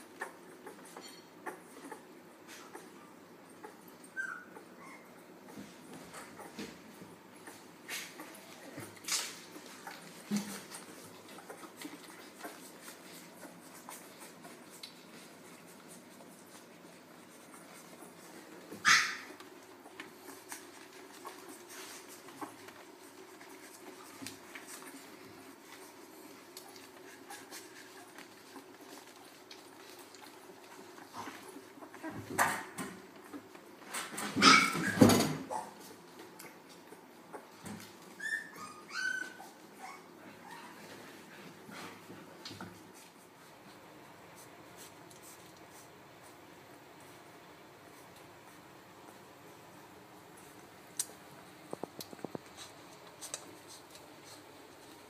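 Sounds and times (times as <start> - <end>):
puppies suckling: 0.0 - 55.0.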